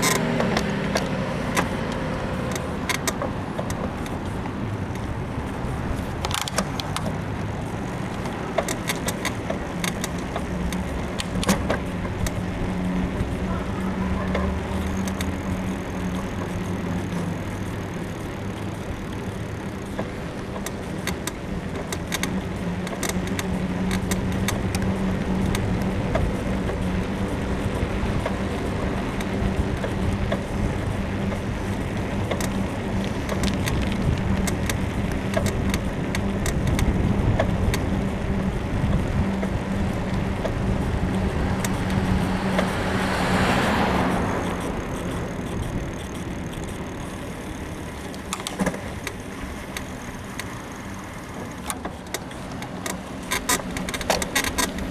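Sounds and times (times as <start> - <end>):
bicycle frame creaks and clicks: 0.0 - 54.9
bicycle tyre and wind noise: 0.0 - 54.9
road traffic: 0.0 - 54.9.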